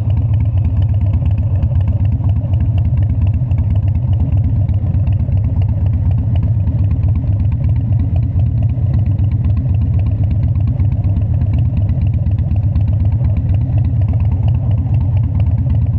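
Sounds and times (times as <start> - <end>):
motorcycle engine running steadily: 0.0 - 15.9.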